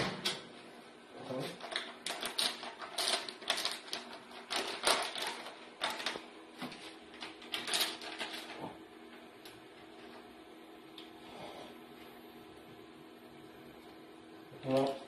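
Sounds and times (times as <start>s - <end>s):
packing machine humming: 0.0s - 15.0s.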